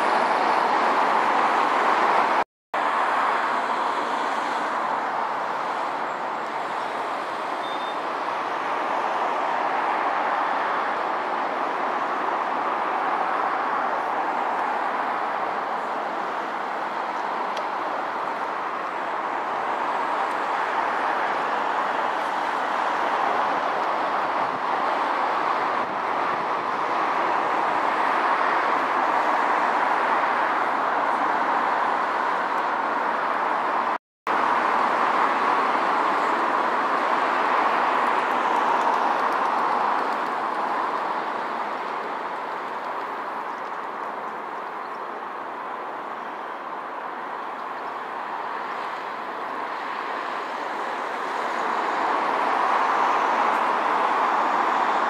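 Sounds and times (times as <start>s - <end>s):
car tyres hissing on road: 0.0s - 43.6s, 45.3s - 55.0s.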